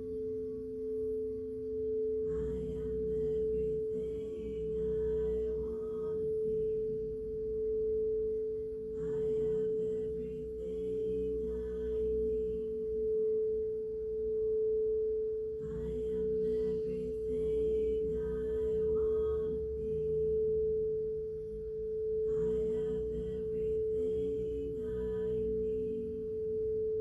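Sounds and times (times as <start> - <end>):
singing bowl tone: 0.0 - 27.0.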